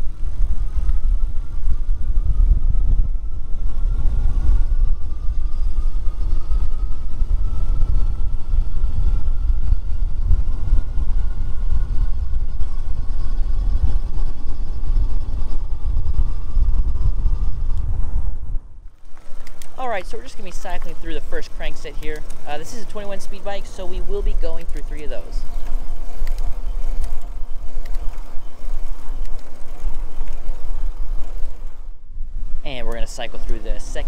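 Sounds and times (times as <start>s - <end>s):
electric motor whine: 0.0s - 34.0s
low rumble: 0.0s - 34.0s.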